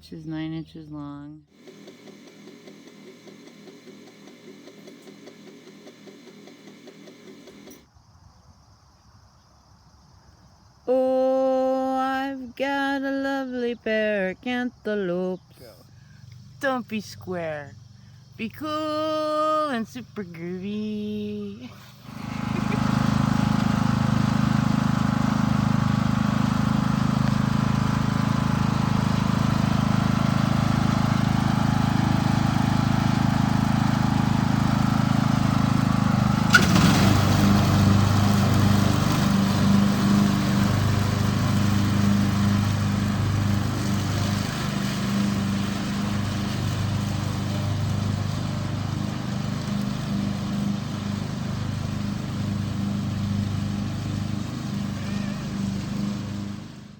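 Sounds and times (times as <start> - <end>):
lawn mower engine running: 1.5 - 7.8, 15.9 - 56.9.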